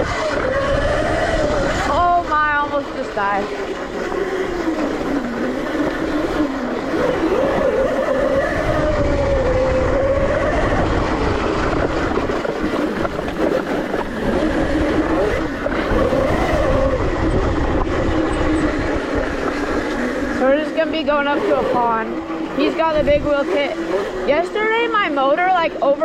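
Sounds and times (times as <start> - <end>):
electric dirt bike motor whining: 0.0 - 26.0.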